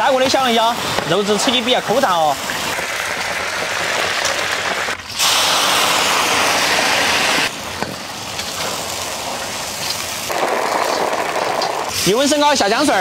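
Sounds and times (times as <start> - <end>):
deep-frying sizzle in oil: 0.0 - 13.0.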